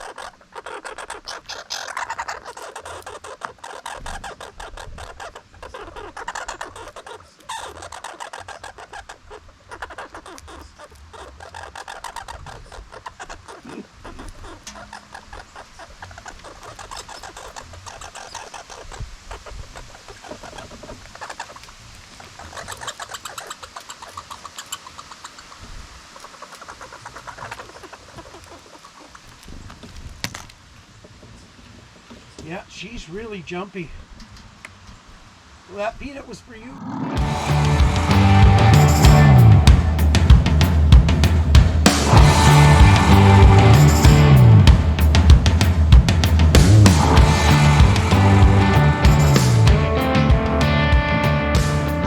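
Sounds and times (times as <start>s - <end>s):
squirrels chattering: 0.0s - 29.5s, 35.7s - 52.0s.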